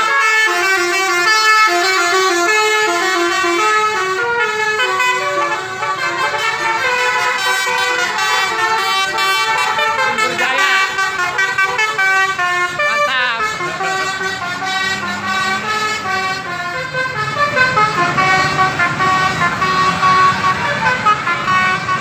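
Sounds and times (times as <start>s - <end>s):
bus horn playing a melody: 0.0s - 22.0s.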